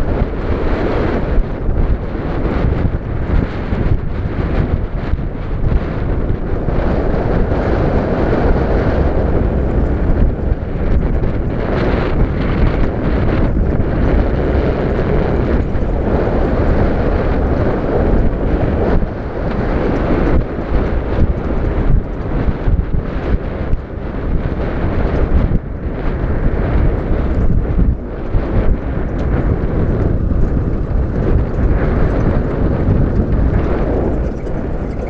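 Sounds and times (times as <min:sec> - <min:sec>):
vehicle engine running: 0:00.0 - 0:35.0
wind buffeting the microphone: 0:00.0 - 0:35.0.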